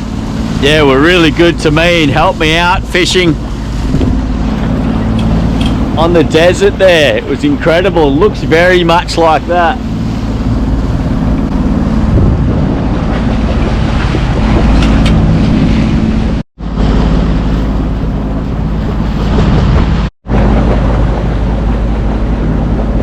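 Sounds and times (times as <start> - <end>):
boat engine running: 0.0 - 23.0
water rushing past: 0.0 - 23.0
wind buffeting microphone: 0.0 - 23.0.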